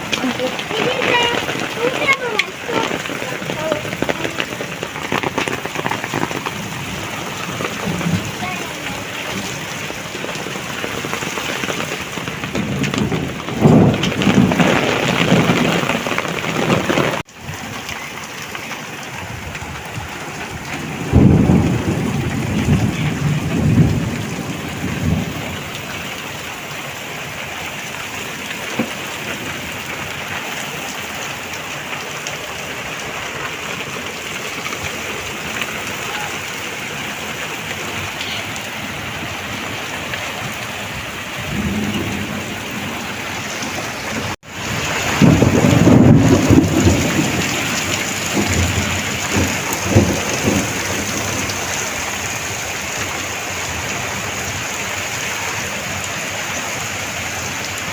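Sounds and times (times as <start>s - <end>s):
thunder rumbling: 0.0s - 55.7s
heavy rain falling: 0.0s - 57.9s.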